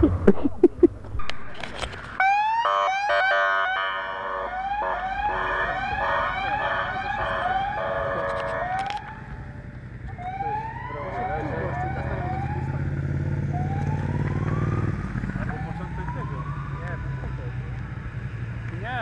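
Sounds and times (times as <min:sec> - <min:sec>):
police siren: 0:01.2 - 0:18.6.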